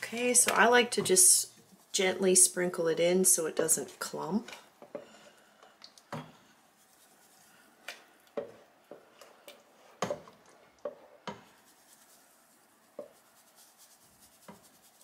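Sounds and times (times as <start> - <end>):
wooden spoon stirring in a pot: 0.0 - 15.0.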